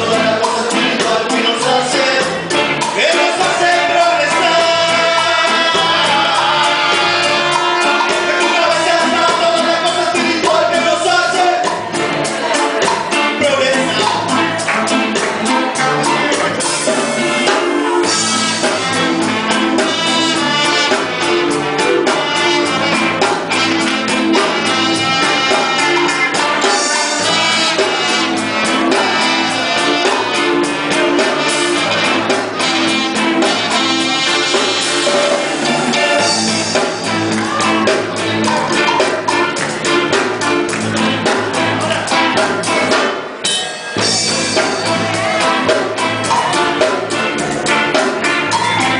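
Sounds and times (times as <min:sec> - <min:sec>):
band with drums and brass: 0:00.0 - 0:48.9.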